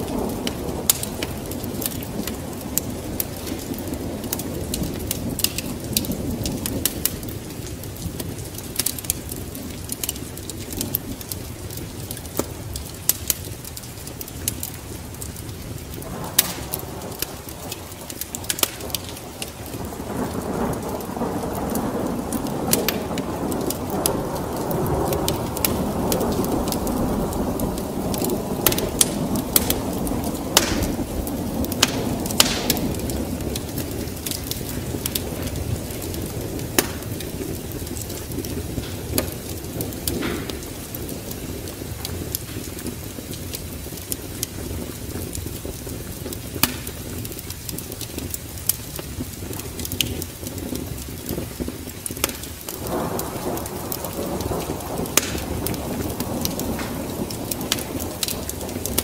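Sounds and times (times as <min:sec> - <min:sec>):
rain: 0:00.0 - 0:59.0
thunder rumbling: 0:00.0 - 0:59.0
wood fire crackling: 0:00.0 - 0:59.0.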